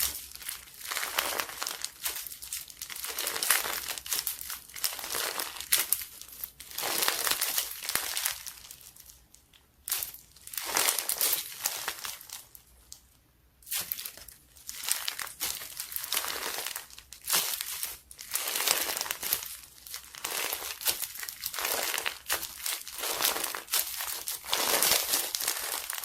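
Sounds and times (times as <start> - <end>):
slime squishing and crackling: 0.0 - 13.0, 13.7 - 26.0.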